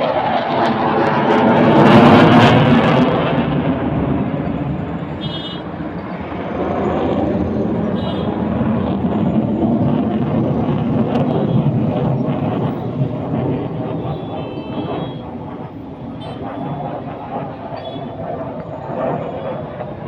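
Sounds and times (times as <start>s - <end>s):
military aircraft flying over: 0.0s - 20.0s.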